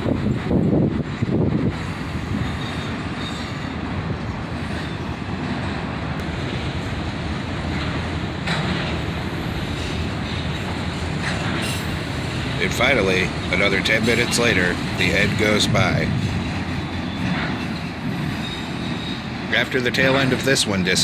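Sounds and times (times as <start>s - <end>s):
freight train wheels rumbling on rails: 0.0s - 21.0s
high-pitched rail noise: 0.0s - 21.0s.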